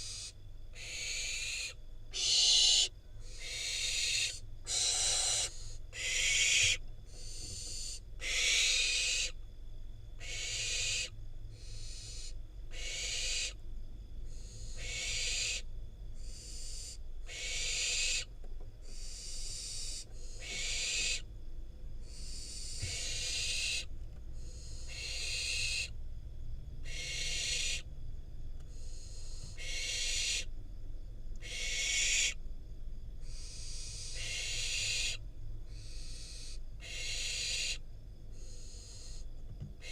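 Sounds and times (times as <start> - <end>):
owl nestlings hissing calls: 0.0 - 9.4, 10.2 - 13.6, 14.3 - 21.3, 22.0 - 26.0, 26.8 - 27.9, 28.7 - 30.5, 31.4 - 32.4, 33.2 - 39.9.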